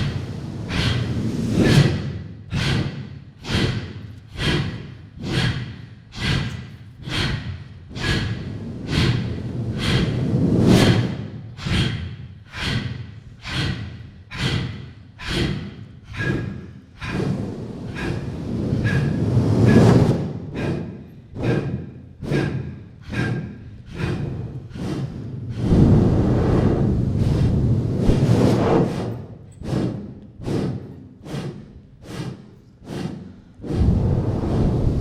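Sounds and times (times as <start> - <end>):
loud rhythmic breathing: 0.0 - 35.0.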